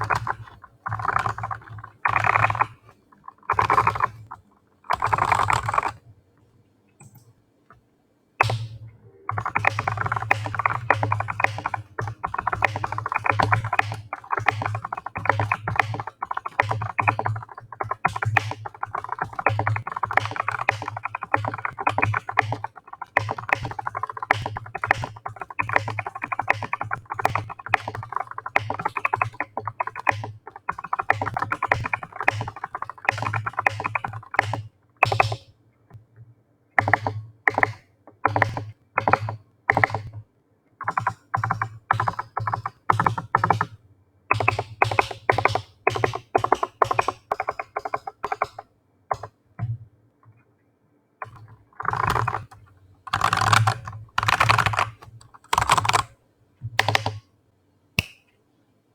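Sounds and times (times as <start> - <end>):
keyboard typing: 0.0 - 6.1, 8.4 - 35.5, 36.8 - 40.2, 40.8 - 49.7, 51.2 - 56.2, 56.8 - 57.3.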